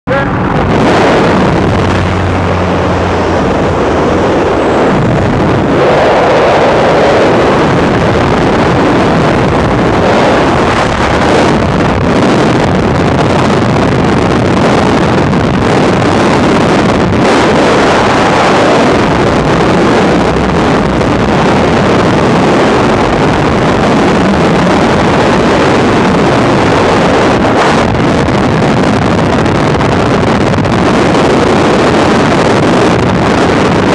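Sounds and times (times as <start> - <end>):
wind rushing over microphone: 0.0 - 33.9
low steady hum: 0.1 - 33.8.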